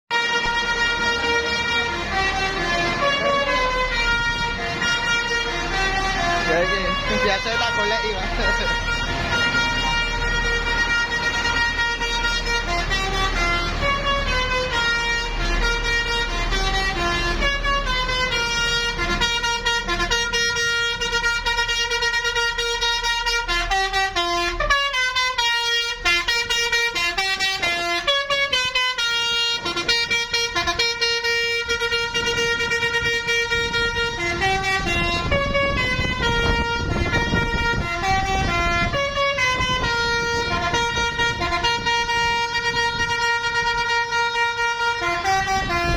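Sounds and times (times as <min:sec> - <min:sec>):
bus air horn melody: 0:00.1 - 0:45.9.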